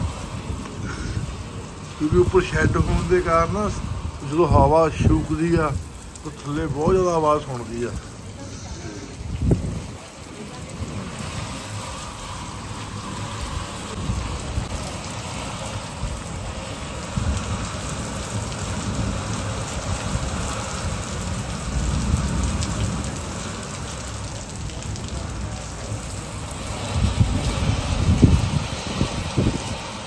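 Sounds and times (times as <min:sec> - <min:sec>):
heavy rain on shed roof: 0:00.0 - 0:30.0
wind gusting: 0:00.0 - 0:30.0.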